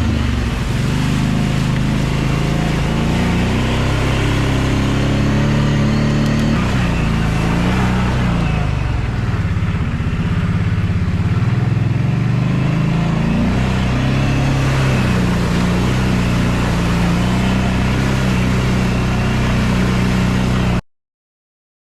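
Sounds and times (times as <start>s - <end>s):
atv engine revving: 0.0s - 20.8s.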